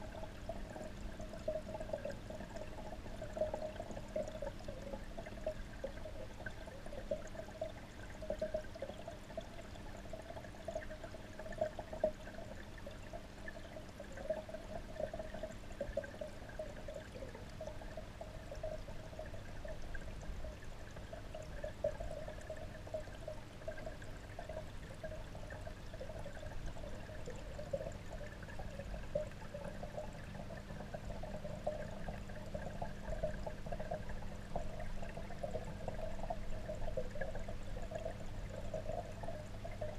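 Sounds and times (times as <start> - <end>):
running water heard underwater: 0.0 - 39.9.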